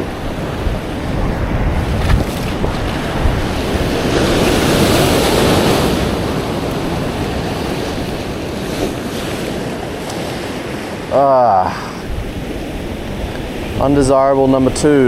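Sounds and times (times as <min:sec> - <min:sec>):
ocean swell washing over rocks: 0:00.0 - 0:15.0
wind buffeting microphone: 0:00.0 - 0:15.0.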